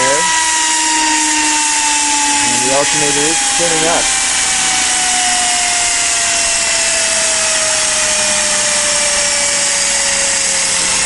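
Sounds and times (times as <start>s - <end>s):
steam hissing: 0.0s - 11.0s
turbine whine falling in pitch: 0.0s - 11.0s.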